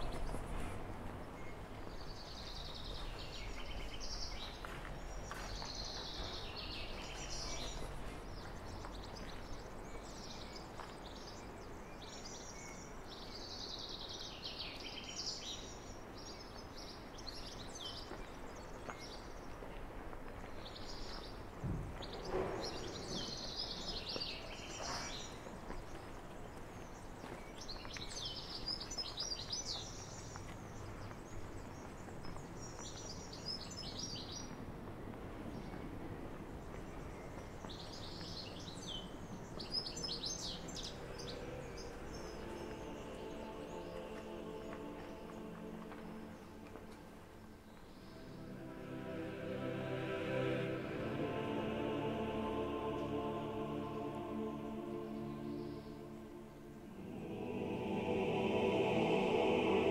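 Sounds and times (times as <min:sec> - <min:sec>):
low outdoor background: 0:00.0 - 0:59.9
songbirds chirping: 0:00.0 - 0:59.9.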